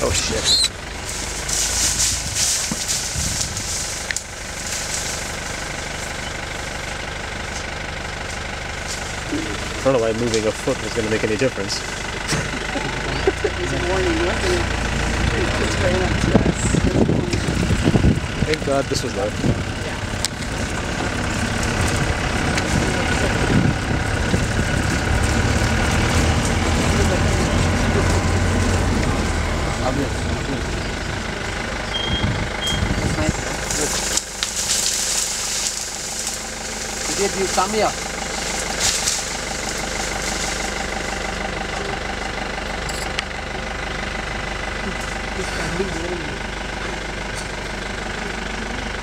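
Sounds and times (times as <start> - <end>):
engine idling: 0.0 - 49.0.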